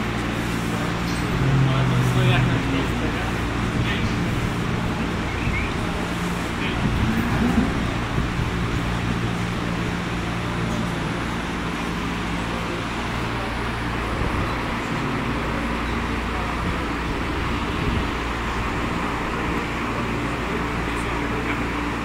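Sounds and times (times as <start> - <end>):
ventilation fan hum and rushing air: 0.0 - 22.0.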